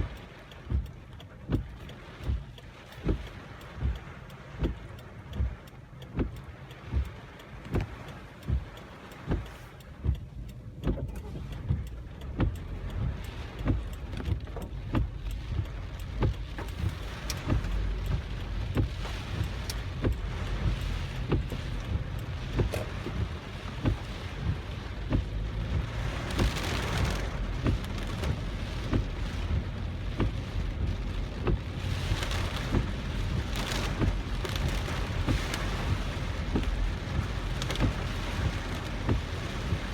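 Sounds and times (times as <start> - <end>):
heavy rain on a car: 0.0 - 39.9
low road rumble: 0.0 - 39.9
windshield wipers knocking: 0.0 - 39.9.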